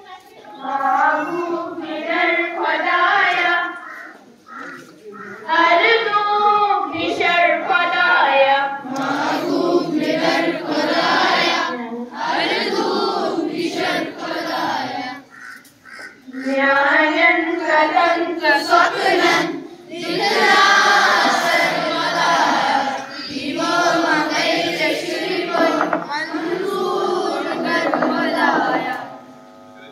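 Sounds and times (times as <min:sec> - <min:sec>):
children singing in unison: 0:00.0 - 0:04.1, 0:05.2 - 0:15.4, 0:16.3 - 0:29.9.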